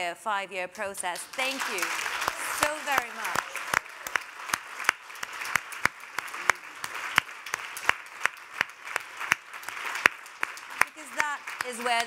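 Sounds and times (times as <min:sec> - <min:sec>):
audience applauding: 0:01.2 - 0:12.0
sharp close claps: 0:01.2 - 0:12.0.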